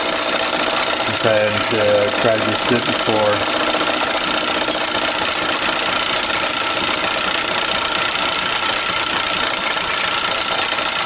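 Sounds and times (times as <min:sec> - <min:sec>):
lathe gears clattering: 0:00.0 - 0:11.0
thin steady whine: 0:00.0 - 0:11.0.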